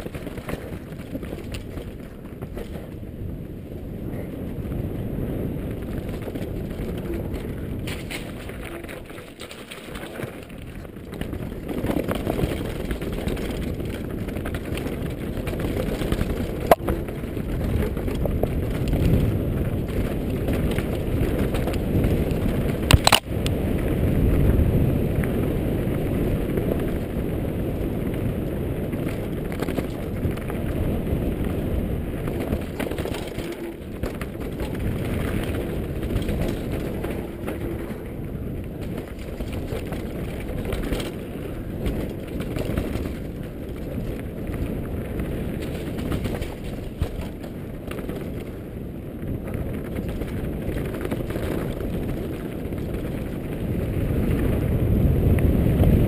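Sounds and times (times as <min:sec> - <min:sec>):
mountain bike rattling on dirt trail: 0:00.0 - 0:56.0.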